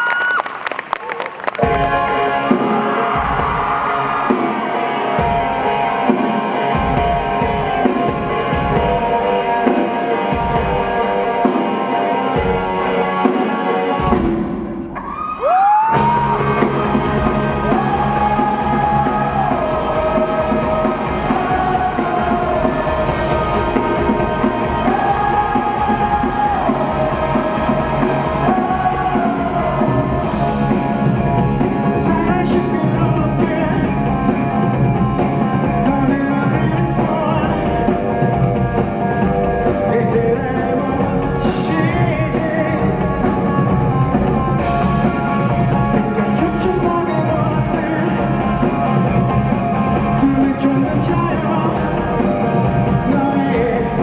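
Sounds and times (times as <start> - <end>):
live rock band playing: 1.4 - 15.0, 15.9 - 54.0.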